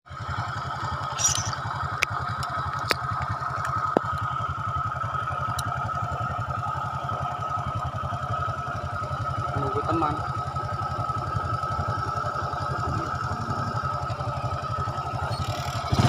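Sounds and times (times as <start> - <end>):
small engine running: 0.1 - 16.0.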